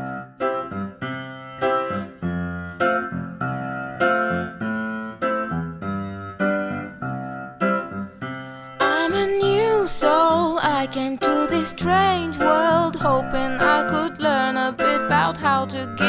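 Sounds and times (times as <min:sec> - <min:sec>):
piano playing bouncing chords: 0:00.0 - 0:16.0.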